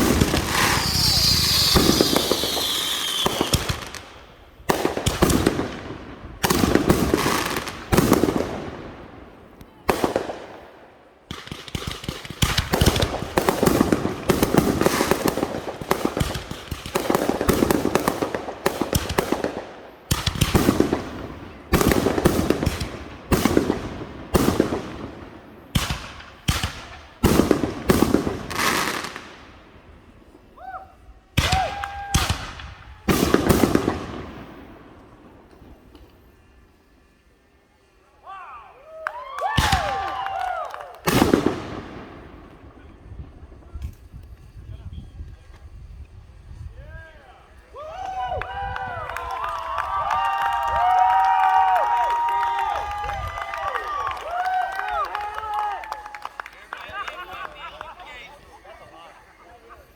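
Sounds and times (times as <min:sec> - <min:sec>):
fireworks bangs and crackling: 0:00.0 - 0:38.1, 0:38.8 - 0:46.8, 0:47.4 - 0:59.9.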